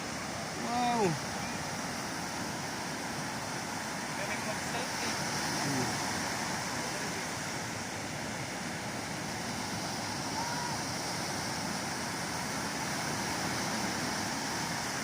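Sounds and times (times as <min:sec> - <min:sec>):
ocean surf breaking on beach: 0:00.0 - 0:15.0.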